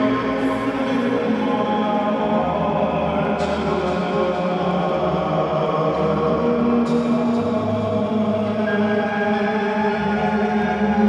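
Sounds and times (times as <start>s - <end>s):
ambient choir-like chanting music: 0.0s - 11.0s.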